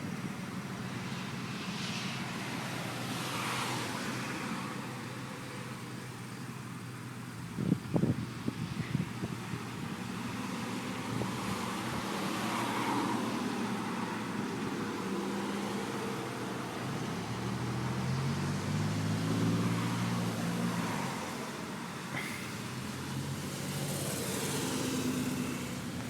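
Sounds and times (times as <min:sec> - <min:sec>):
low engine hum: 0:00.0 - 0:26.0
vehicles driving past: 0:00.0 - 0:26.0.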